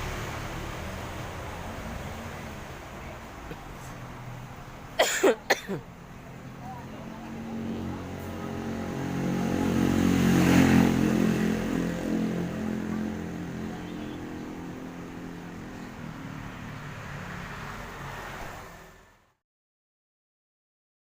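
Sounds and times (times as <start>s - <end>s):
bus diesel engine passing: 0.0s - 19.4s.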